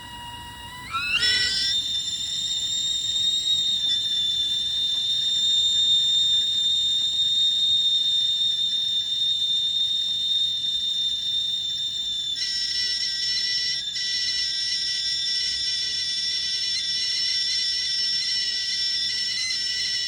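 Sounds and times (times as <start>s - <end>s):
kettle whistling: 0.0s - 20.0s.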